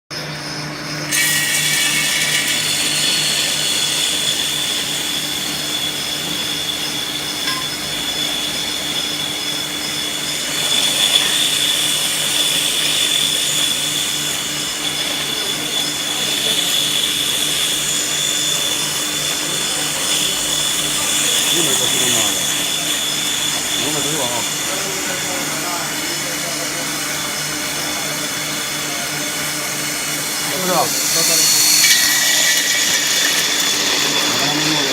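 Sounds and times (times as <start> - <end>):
grinder motor humming and whining: 0.1 - 34.9.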